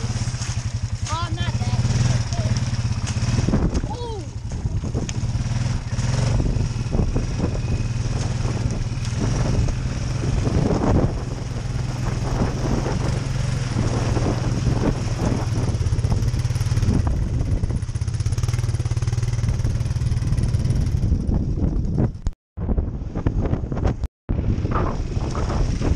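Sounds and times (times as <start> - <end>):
atv engine running: 0.0 - 22.3, 23.0 - 25.9.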